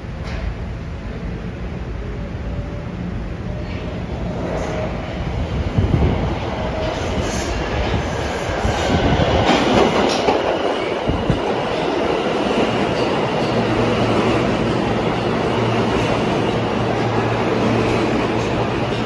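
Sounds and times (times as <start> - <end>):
subway train wheels clattering: 0.0 - 19.0.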